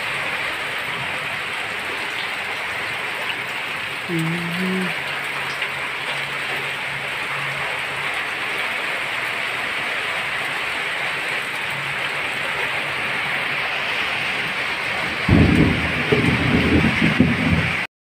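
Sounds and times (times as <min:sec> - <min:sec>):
rain falling on leaves: 0:00.0 - 0:17.9.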